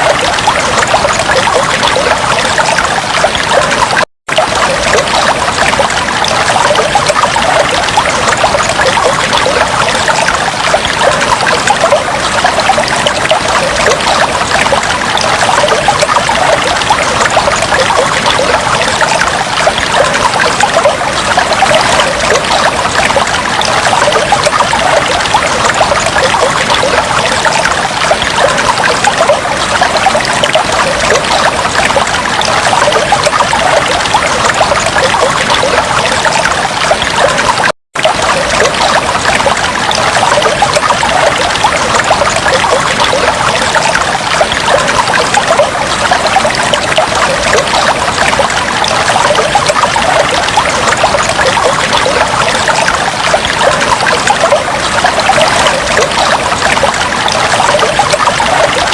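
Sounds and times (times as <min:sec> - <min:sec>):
aquarium water bubbling: 0:00.0 - 0:58.9.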